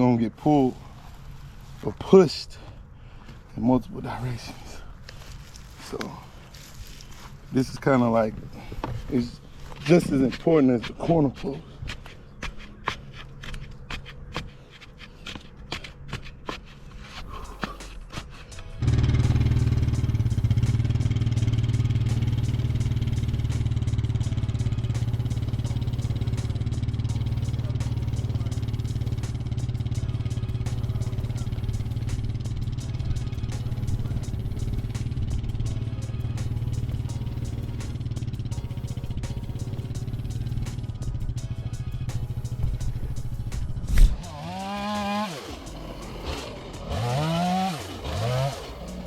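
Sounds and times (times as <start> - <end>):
engine running steadily: 4.5 - 49.0.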